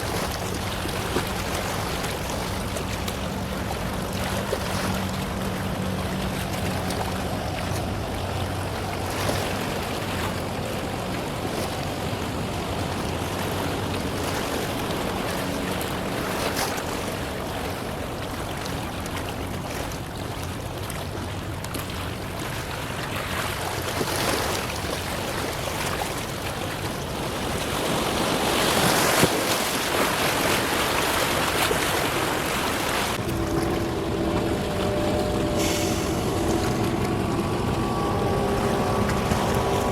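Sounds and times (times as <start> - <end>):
wind and water rushing: 0.0 - 39.9.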